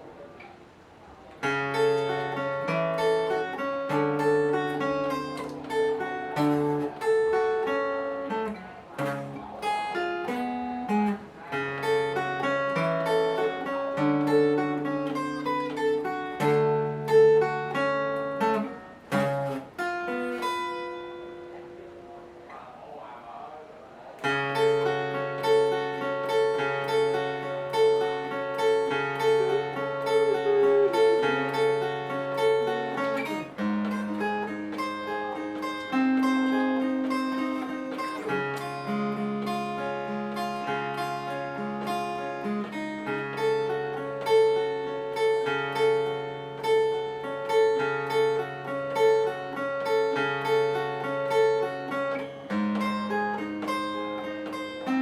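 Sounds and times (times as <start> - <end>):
acoustic guitar arpeggios: 0.0 - 55.0.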